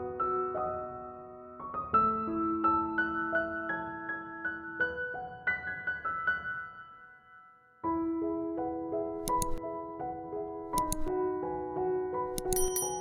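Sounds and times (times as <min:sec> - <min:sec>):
soft slow piano music: 0:00.0 - 0:13.0.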